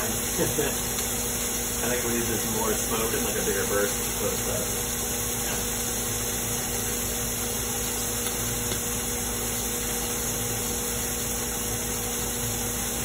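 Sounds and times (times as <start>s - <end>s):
kitchen exhaust fan running: 0.0s - 13.0s.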